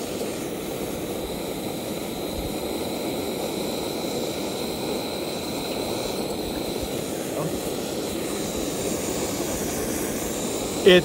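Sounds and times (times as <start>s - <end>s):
gas stove burning with jet hiss: 0.0s - 11.0s.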